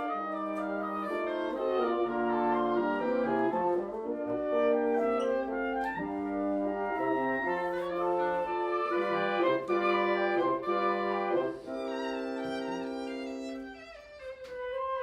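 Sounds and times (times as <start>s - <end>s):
chamber orchestra playing: 0.0s - 15.0s.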